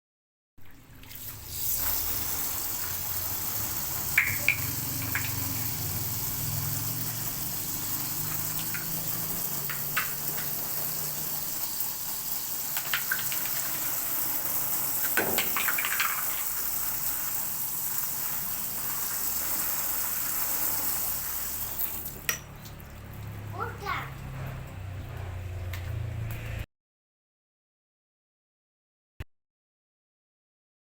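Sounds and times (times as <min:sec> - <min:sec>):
water spraying over a fan: 0:01.0 - 0:26.6.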